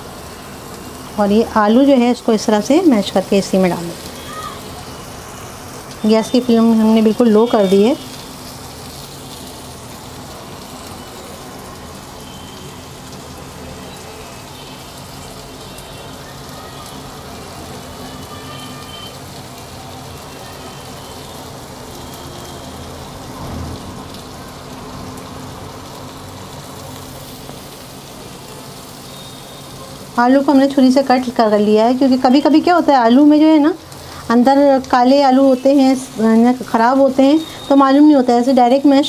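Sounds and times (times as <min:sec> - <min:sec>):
oil sizzling in frying pan: 0:00.0 - 0:39.0.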